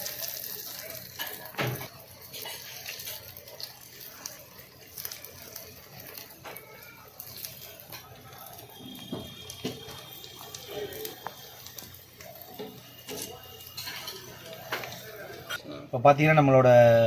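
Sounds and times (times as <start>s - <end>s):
food deep-frying in oil: 0.0s - 15.6s.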